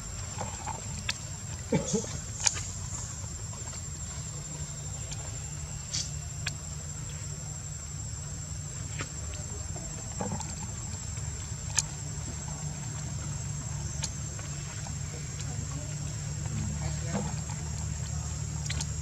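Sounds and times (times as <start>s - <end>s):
insects droning: 0.0s - 19.0s
low steady rumble: 0.0s - 19.0s.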